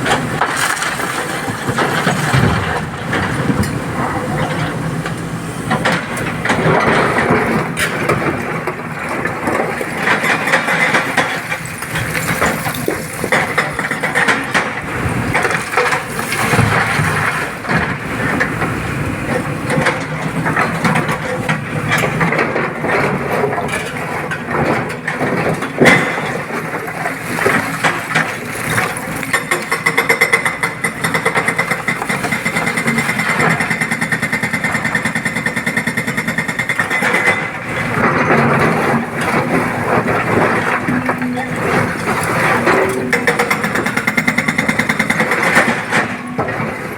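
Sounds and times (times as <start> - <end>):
excavator engine under load: 0.0 - 46.9.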